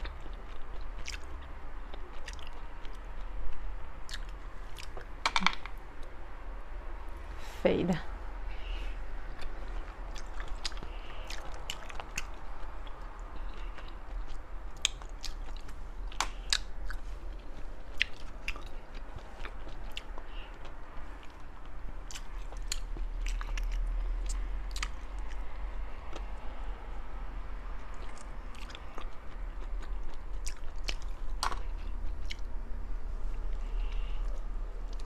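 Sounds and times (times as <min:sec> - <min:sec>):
chewing and wet mouth sounds: 0:00.0 - 0:05.2, 0:08.5 - 0:27.0, 0:27.6 - 0:32.6, 0:33.2 - 0:35.0.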